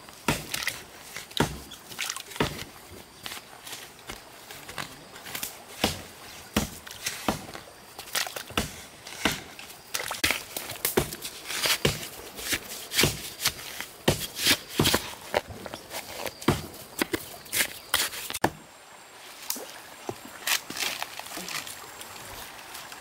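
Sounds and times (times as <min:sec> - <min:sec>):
digging tool chopping wet soil: 0:00.2 - 0:18.6.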